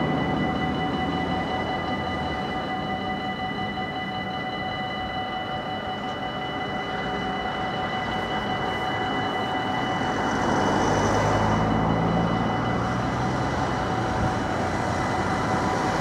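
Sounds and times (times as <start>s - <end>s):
level crossing bells ringing: 0.0s - 16.0s
train rumble: 0.0s - 16.0s.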